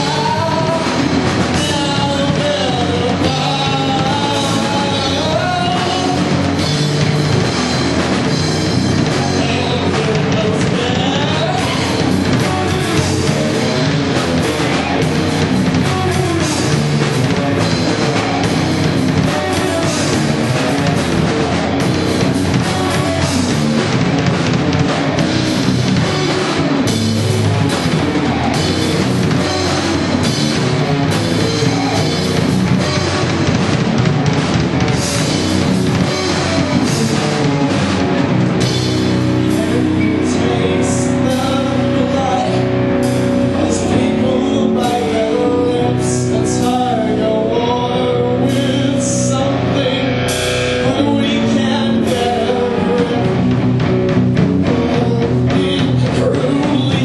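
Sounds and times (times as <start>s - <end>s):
person singing: 0.0s - 7.2s, 9.0s - 24.0s, 28.0s - 33.6s, 34.8s - 53.7s, 54.4s - 57.0s
bass guitar: 0.0s - 57.0s
distorted electric guitar: 0.0s - 57.0s
drum kit: 0.0s - 57.0s.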